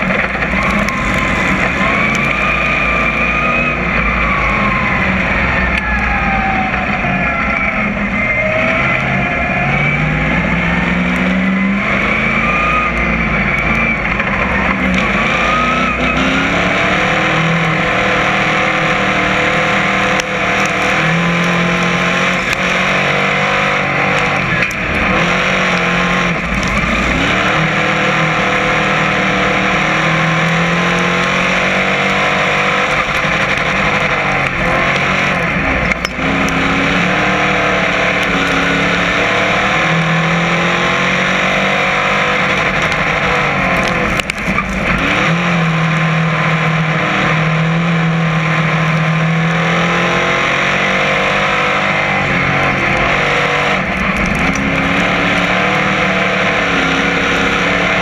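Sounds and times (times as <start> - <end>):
race car engine roaring: 0.0 - 58.0.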